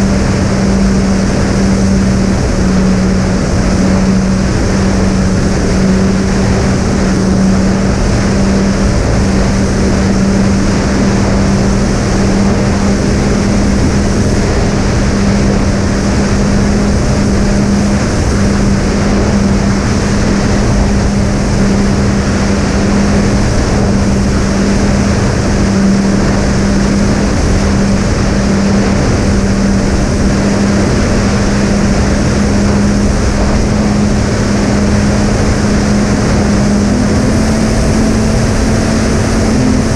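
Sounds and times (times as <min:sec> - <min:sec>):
rushing airflow: 0:00.0 - 0:39.9.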